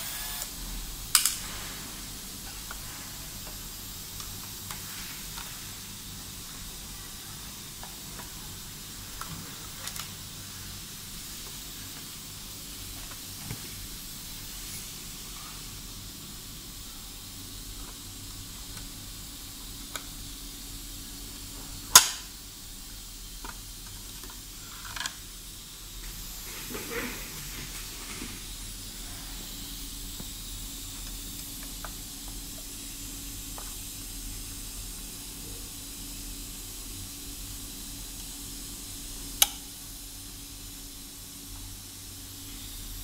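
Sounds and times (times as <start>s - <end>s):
steady hiss: 0.0s - 43.0s.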